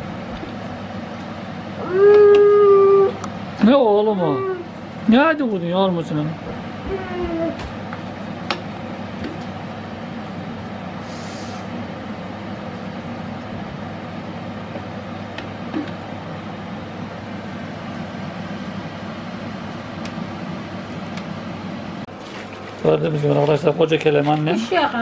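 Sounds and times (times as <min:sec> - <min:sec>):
low rumbling background noise: 0:00.0 - 0:25.0.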